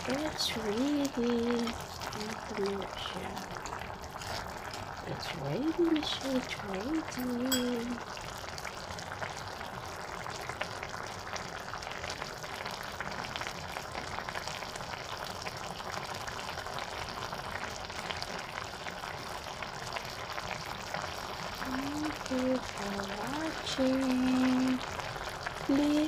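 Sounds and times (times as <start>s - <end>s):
sauce bubbling and sizzling: 0.0s - 26.0s.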